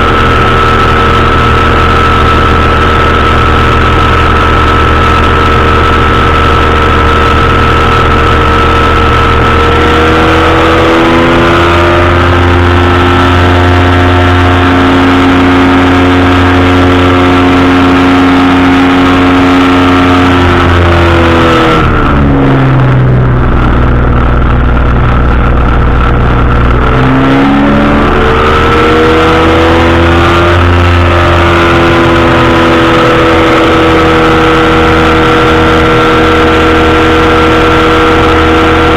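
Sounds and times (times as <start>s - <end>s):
engine and propeller running: 0.0s - 38.9s.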